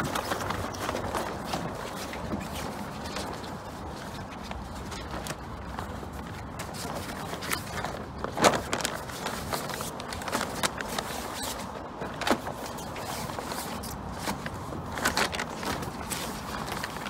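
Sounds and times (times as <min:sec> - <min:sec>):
sailcloth crinkling and rustling: 0:00.0 - 0:17.0.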